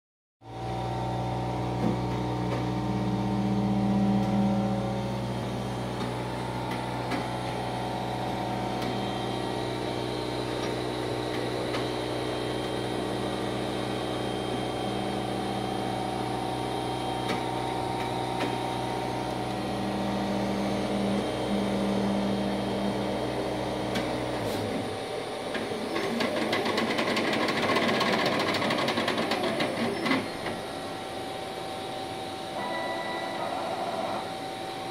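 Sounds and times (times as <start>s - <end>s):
printer humming: 0.6s - 34.9s.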